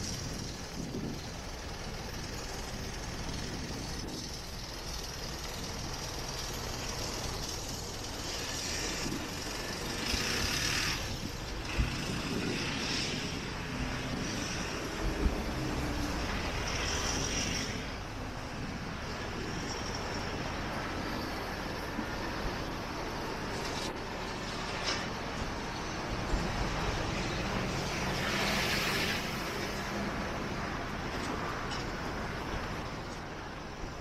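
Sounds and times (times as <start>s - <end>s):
vehicles passing: 0.0s - 34.0s.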